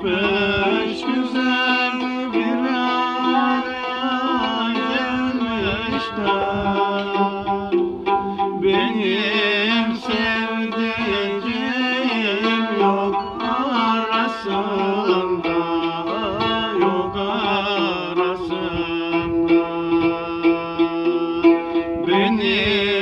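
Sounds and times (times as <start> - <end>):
man singing folk song: 0.0 - 23.0
plucked long-necked lute: 0.0 - 23.0.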